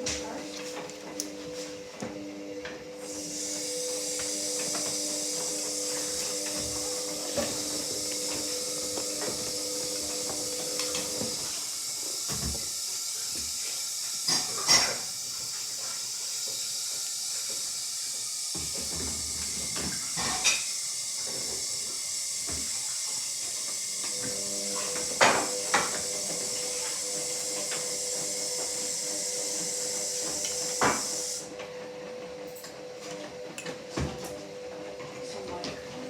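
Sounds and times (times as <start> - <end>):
motor hum: 0.0 - 36.0
water hissing in washing machine: 0.0 - 36.0.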